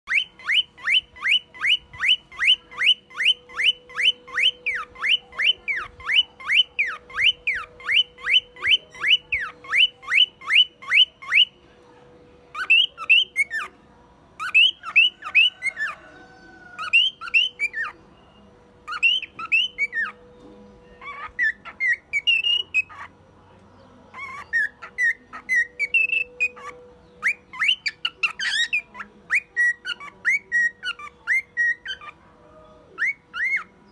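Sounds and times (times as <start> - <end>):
cockatiel whistling: 0.1 - 11.6, 14.4 - 20.3, 20.9 - 23.1, 24.1 - 32.2, 33.0 - 33.9.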